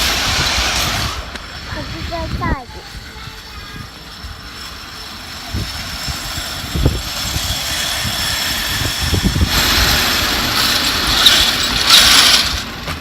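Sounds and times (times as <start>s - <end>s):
rumbling of playground slide: 0.0s - 13.0s.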